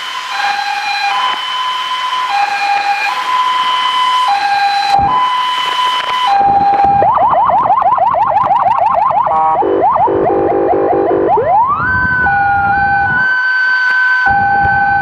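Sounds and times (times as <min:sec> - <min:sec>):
electronic emergency siren: 0:00.0 - 0:15.0.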